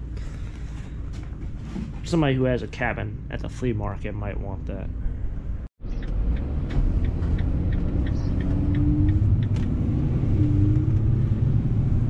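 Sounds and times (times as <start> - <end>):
van engine rumble and road noise: 0.0 - 12.0.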